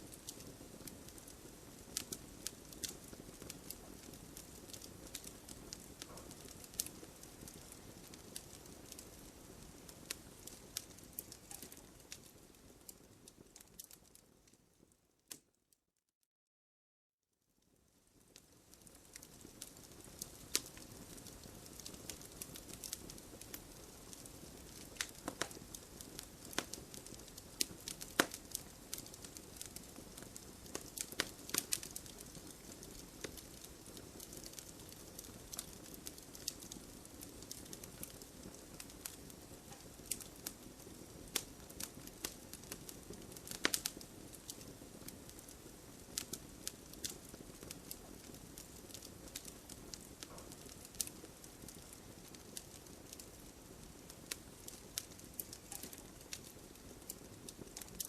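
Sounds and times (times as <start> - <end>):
low hiss of flames: 0.0 - 14.3, 17.8 - 58.0
wood crackling and popping: 0.0 - 14.6, 18.1 - 58.0.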